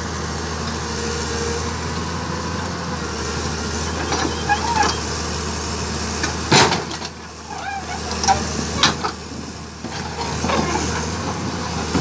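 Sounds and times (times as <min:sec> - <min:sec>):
excavator diesel engine under load: 0:00.0 - 0:12.0.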